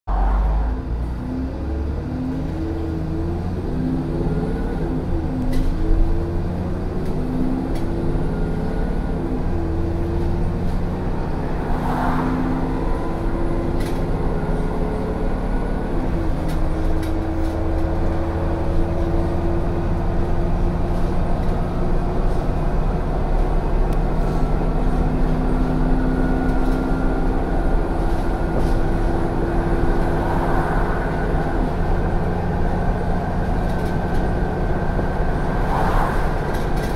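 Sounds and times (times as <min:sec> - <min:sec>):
bus engine accelerating: 0:00.1 - 0:36.9.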